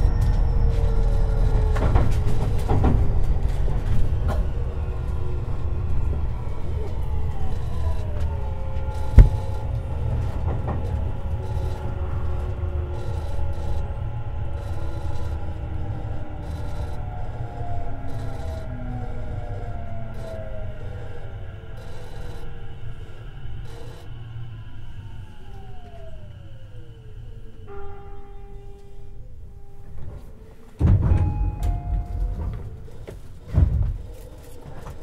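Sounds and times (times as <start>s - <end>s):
train wheels rumbling on rail: 0.0s - 28.9s, 29.8s - 35.0s
traction motor whine: 0.0s - 29.4s.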